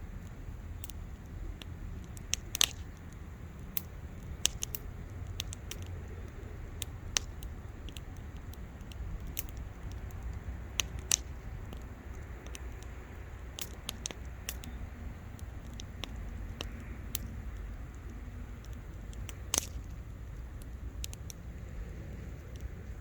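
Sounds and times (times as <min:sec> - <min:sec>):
low steady rumble: 0:00.0 - 0:23.0
wood fire crackling: 0:00.0 - 0:23.0.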